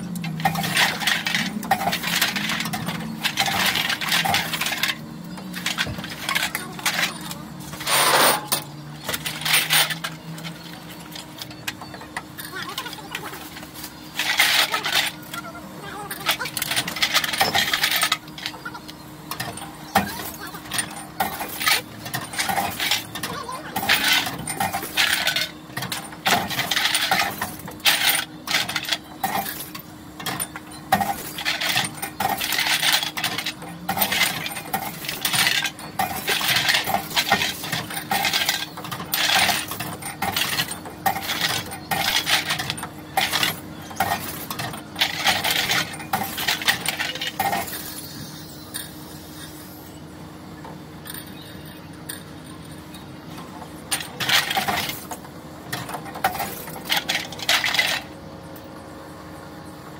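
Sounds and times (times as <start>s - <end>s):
glass bottles clinking: 0.2s - 13.2s, 16.0s - 18.7s, 19.3s - 49.1s, 53.9s - 58.1s.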